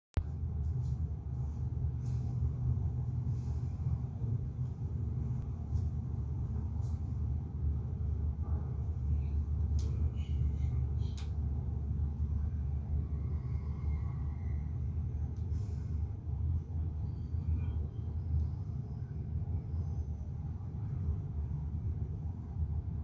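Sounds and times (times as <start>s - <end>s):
low rumble: 0.2s - 23.0s.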